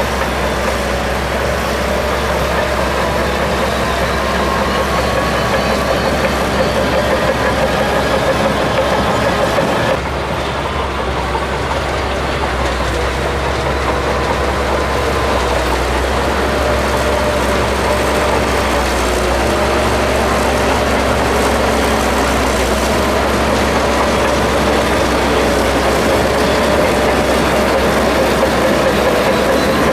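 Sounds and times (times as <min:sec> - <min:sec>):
bulldozer engine and tracks: 0:00.0 - 0:29.9.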